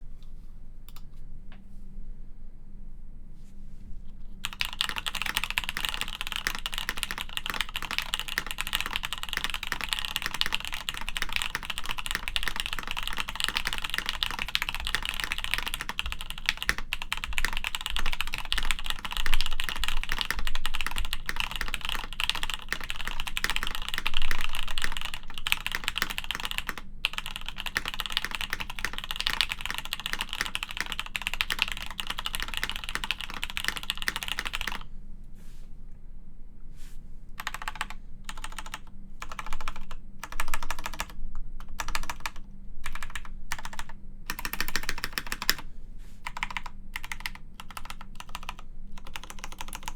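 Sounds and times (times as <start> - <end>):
mechanical keyboard typing: 4.4 - 34.8, 37.4 - 45.6, 46.2 - 49.9.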